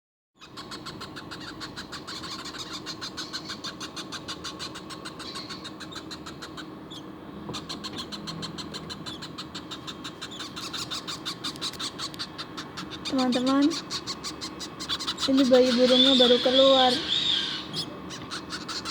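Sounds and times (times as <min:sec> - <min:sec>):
parrot chicks begging calls: 0:00.4 - 0:18.9.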